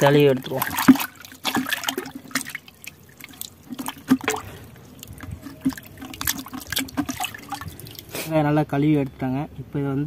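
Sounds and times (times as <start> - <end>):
water splashing in a plastic bucket: 0.0 - 8.1.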